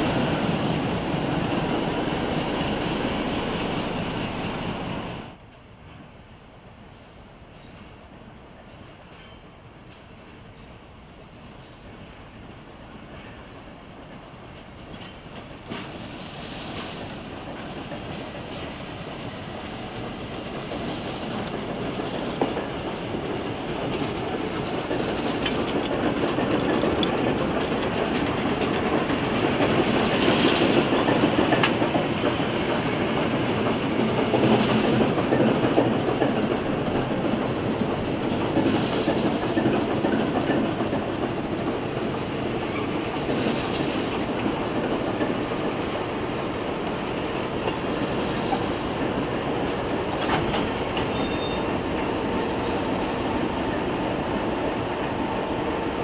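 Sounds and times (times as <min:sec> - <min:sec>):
diesel train passing: 0:00.0 - 0:56.0.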